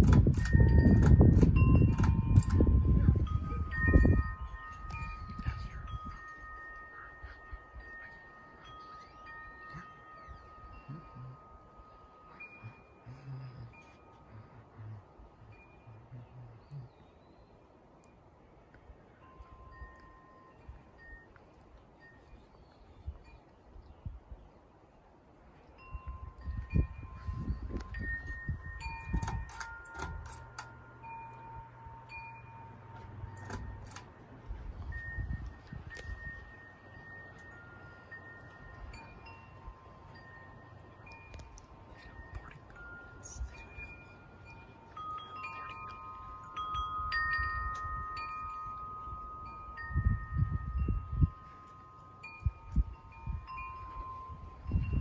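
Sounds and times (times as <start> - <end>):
wind chimes ringing: 0.0 - 24.1, 25.5 - 55.0
low steady hum: 0.0 - 55.0.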